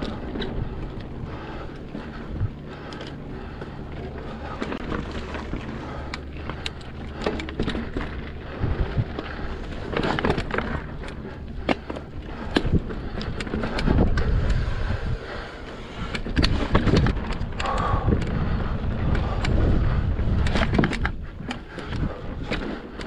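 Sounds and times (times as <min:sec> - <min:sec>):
low rumble: 0:00.0 - 0:22.5
bike tyres clicking and knocking on rock: 0:00.0 - 0:23.0.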